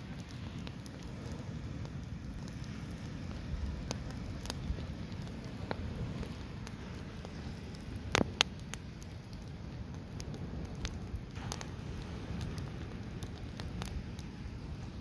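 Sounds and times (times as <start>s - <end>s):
campfire burning: 0.0s - 15.0s
firewood crackling: 0.0s - 15.0s
firewood popping: 0.0s - 15.0s.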